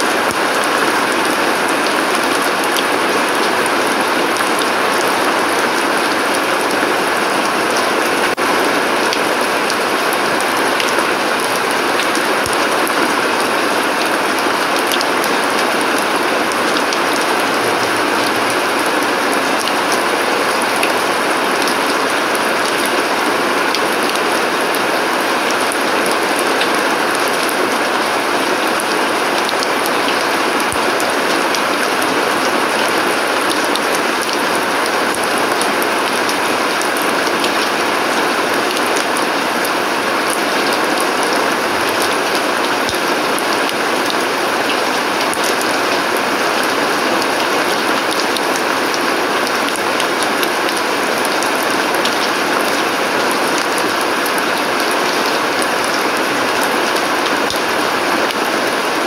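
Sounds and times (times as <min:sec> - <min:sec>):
rain on paving and plants: 0:00.0 - 0:59.0.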